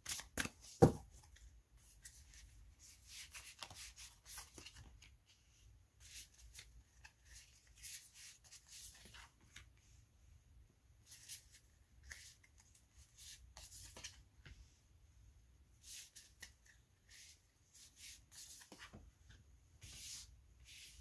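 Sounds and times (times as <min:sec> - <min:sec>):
cards rustling on cloth mat: 0:00.0 - 0:09.8, 0:11.0 - 0:14.6, 0:15.8 - 0:21.0.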